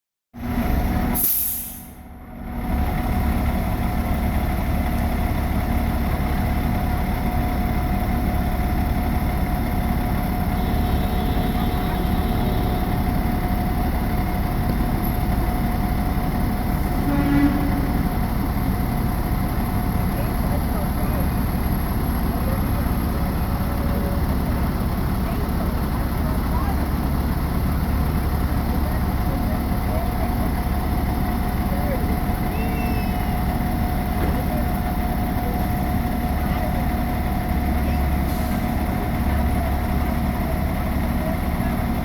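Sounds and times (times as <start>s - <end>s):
diesel engine running: 0.4s - 42.0s.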